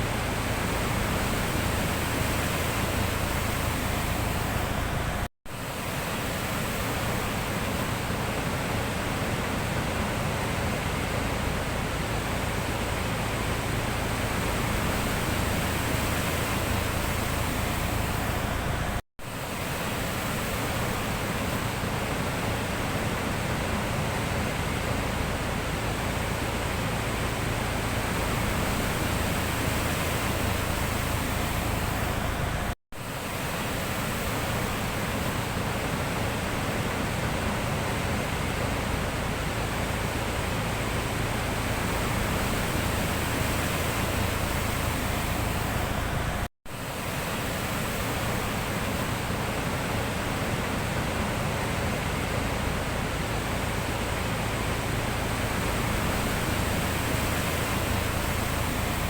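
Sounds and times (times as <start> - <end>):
sea surf rushing: 0.0 - 59.0.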